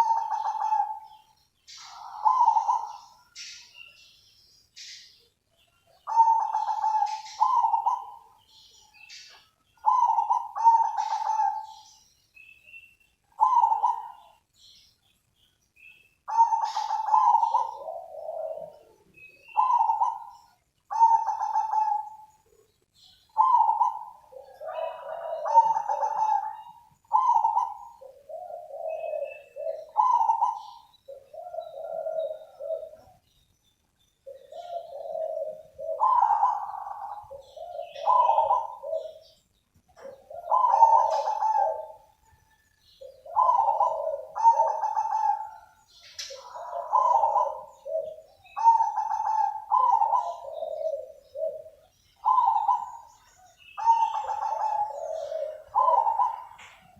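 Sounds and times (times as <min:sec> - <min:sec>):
dove cooing: 0:00.0 - 0:12.6, 0:13.3 - 0:14.9, 0:15.8 - 0:33.3, 0:34.2 - 0:56.9.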